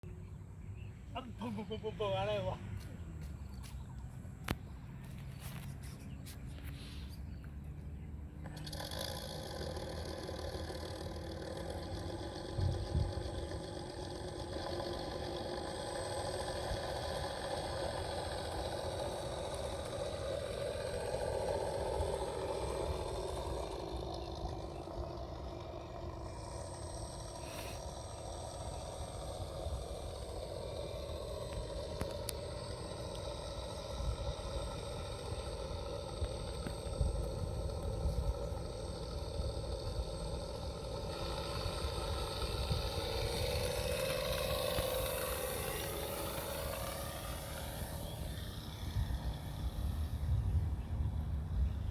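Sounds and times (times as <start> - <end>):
model engine sound effect: 0.0 - 51.9.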